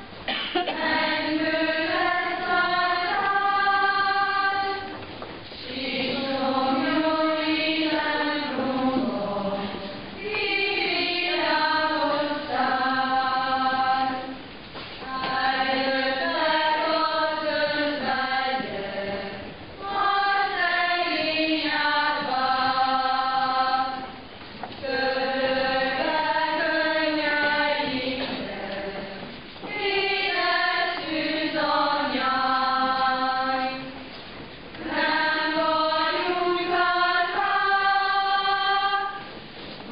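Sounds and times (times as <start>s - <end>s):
congregation singing a hymn: 0.0s - 39.9s.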